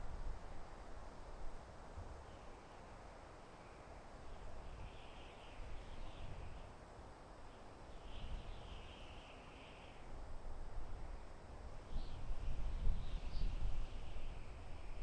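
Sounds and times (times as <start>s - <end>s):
wind blowing through trees: 0.0s - 15.0s.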